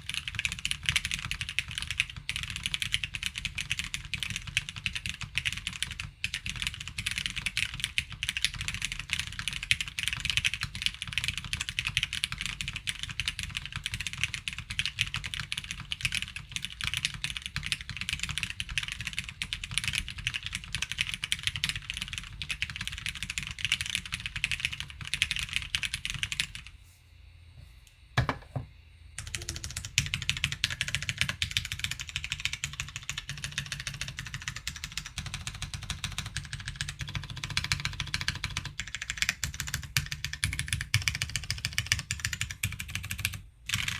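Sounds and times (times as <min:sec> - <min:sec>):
mechanical keyboard typing: 0:00.0 - 0:26.6, 0:29.2 - 0:43.9.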